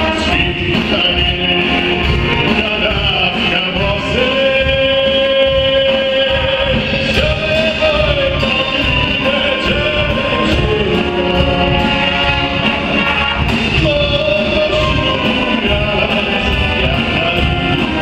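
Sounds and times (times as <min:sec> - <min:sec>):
man singing into microphone: 0:00.0 - 0:18.0
wind band playing folk song: 0:00.0 - 0:18.0.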